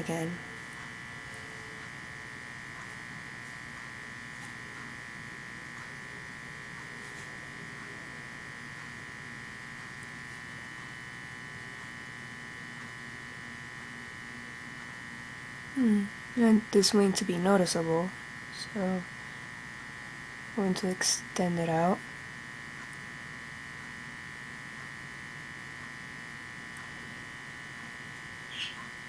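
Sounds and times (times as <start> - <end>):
electrical buzz with high whine: 0.0 - 29.0.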